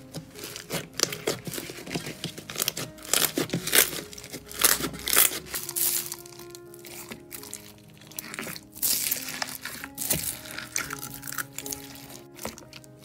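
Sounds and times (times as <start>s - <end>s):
slime squeezed crackling and popping: 0.0s - 13.0s.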